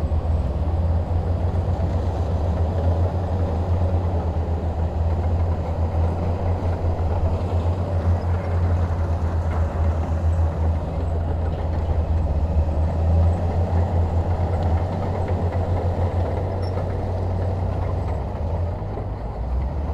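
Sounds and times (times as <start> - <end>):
bulldozer diesel engine running: 0.0 - 19.9.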